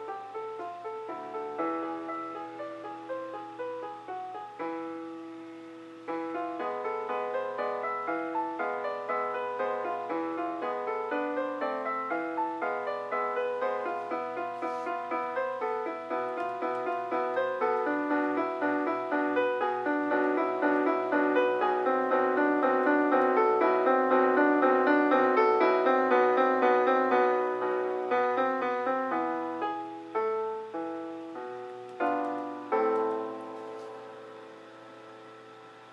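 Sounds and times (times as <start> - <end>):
solo piano playing: 0.0 - 35.9.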